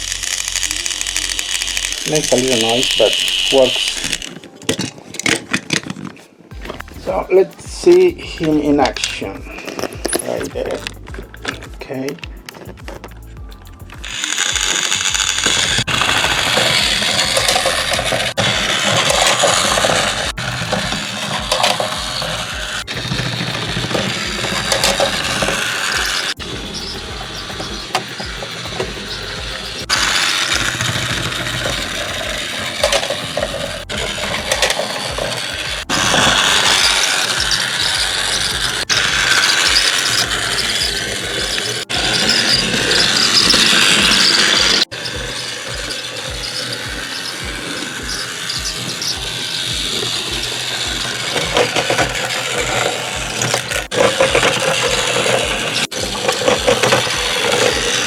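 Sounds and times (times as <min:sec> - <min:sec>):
toy train motor whirring: 0:00.0 - 0:05.9, 0:06.5 - 0:58.0.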